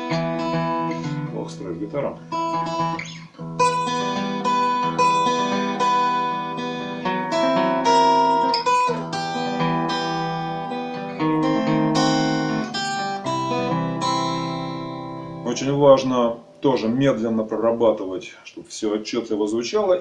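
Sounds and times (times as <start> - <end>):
fingerstyle acoustic guitar: 0.0 - 16.9.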